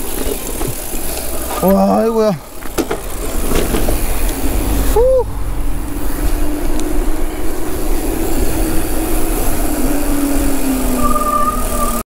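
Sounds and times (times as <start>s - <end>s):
knobby tyres rolling on dirt: 0.0s - 12.0s
wind: 0.0s - 12.0s.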